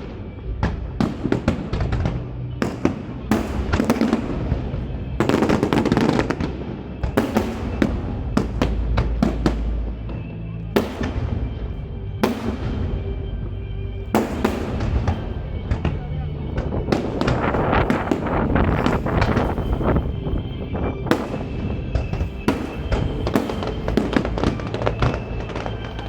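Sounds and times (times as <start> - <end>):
fireworks bursting: 0.0 - 26.0
fireworks crackling: 0.0 - 26.0.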